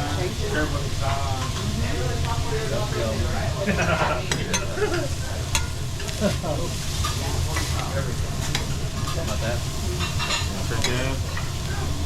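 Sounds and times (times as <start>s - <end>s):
faint voices murmuring: 0.0s - 12.0s
food sizzling on a griddle: 0.0s - 12.0s.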